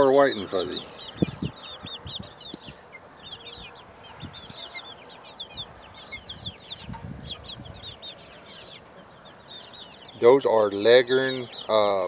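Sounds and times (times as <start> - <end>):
chicks peeping and chirping: 0.0 - 12.0.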